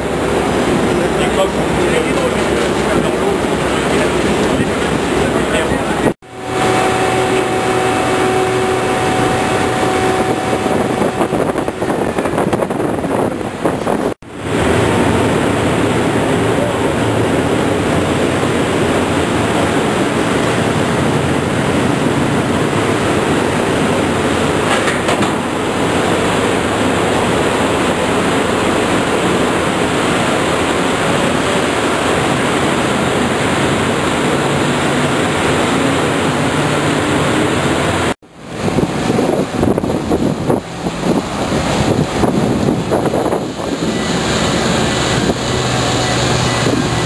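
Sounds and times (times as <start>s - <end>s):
boat engine and water rumble: 0.0s - 47.0s
wind gusts on microphone: 0.0s - 47.0s.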